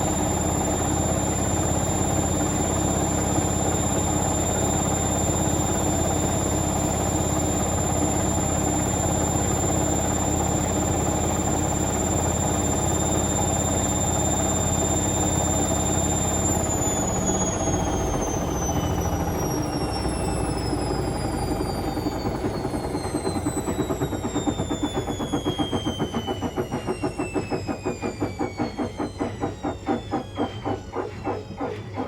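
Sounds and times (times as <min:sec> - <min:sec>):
washing machine spin whine: 0:00.0 - 0:32.0.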